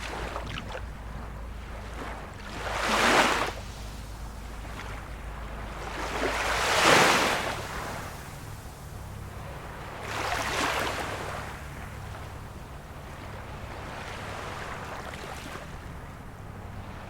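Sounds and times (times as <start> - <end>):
small sea waves washing in: 0.0 - 17.0.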